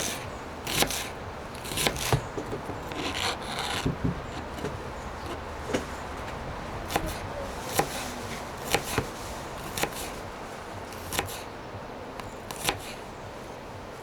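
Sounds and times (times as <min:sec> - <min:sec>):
knife chopping on wooden board: 0:00.0 - 0:10.2, 0:10.9 - 0:11.5, 0:12.2 - 0:13.0.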